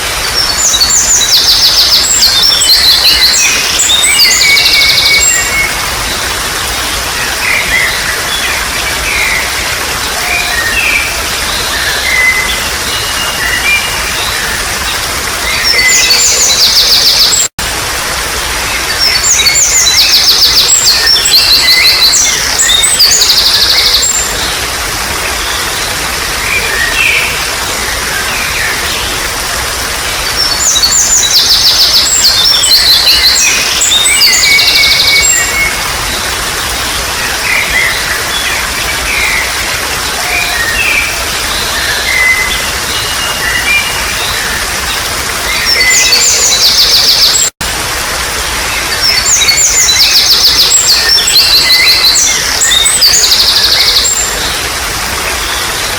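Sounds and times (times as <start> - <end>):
songbirds trilling and chirping: 0.0 - 17.5, 18.1 - 47.6, 48.2 - 55.9
water trickling: 0.0 - 55.9.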